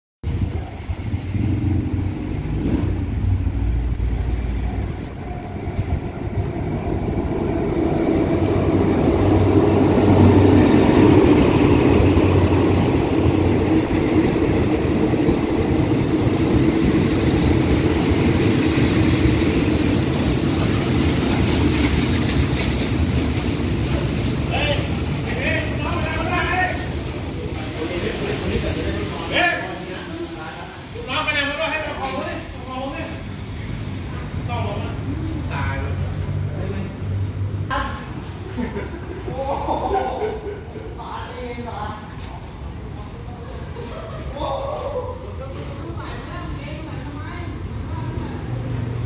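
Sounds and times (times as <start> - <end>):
train coaches rolling on rails: 0.3 - 49.0
train engine hum: 0.3 - 49.0.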